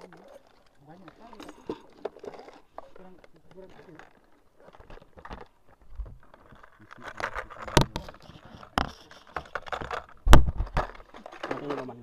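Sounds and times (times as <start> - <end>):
plastic lures rattling: 0.0 - 12.0.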